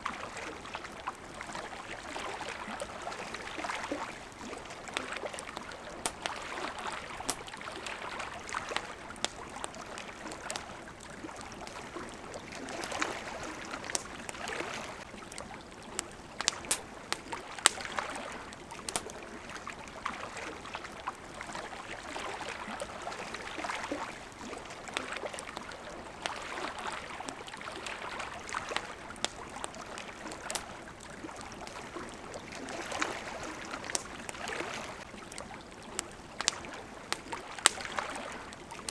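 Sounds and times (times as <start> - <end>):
campfire popping and crackling: 0.0 - 38.9
water lapping at shore: 0.0 - 38.9.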